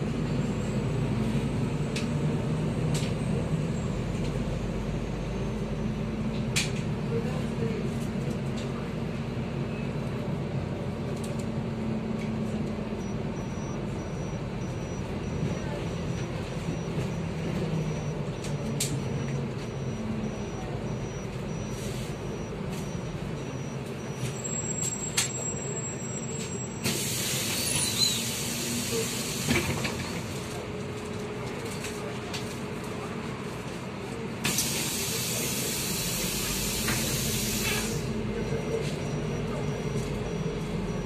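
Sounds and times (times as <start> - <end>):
bus engine running: 0.0 - 41.0.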